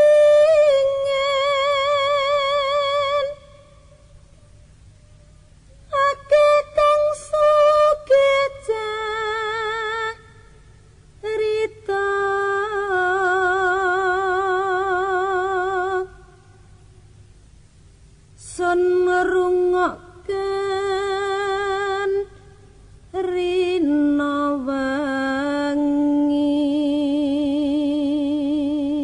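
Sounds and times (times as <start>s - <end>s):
person singing unaccompanied: 0.0s - 4.0s, 5.7s - 10.4s, 11.2s - 16.5s, 18.4s - 29.0s.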